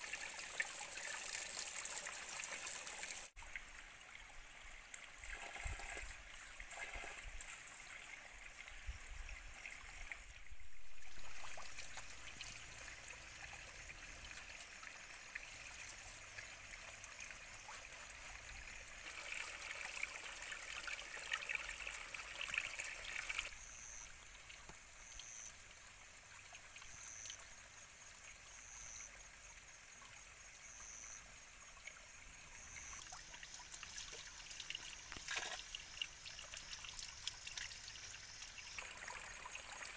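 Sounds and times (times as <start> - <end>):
water trickling from a spout: 0.0 - 23.5, 31.4 - 39.9.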